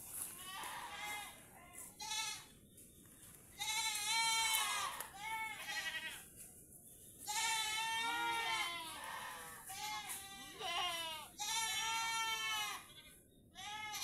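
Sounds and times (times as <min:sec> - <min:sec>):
goats bleating: 0:00.3 - 0:02.5, 0:03.6 - 0:06.2, 0:07.3 - 0:14.0.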